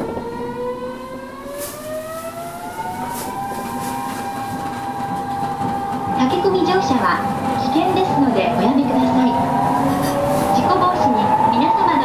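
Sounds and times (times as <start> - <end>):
electric train motors whining: 0.0 - 12.0
train car rumble: 0.0 - 12.0.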